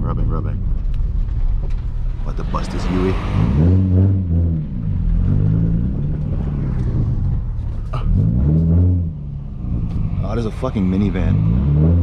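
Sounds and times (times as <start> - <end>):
car engine from inside cabin: 0.1 - 12.0.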